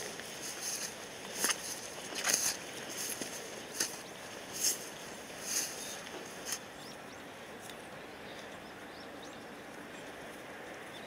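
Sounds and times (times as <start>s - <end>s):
small birds chirping: 0.0s - 10.2s
steady background hiss: 0.0s - 11.0s.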